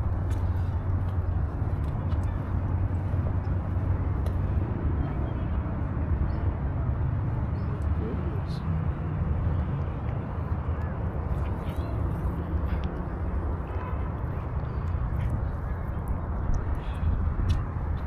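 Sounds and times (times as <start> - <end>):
city background rumble: 0.0 - 18.0.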